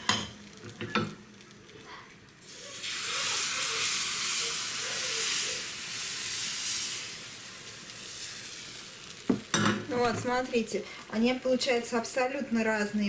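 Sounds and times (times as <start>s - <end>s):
batter sizzling in a frying pan: 0.0s - 13.0s.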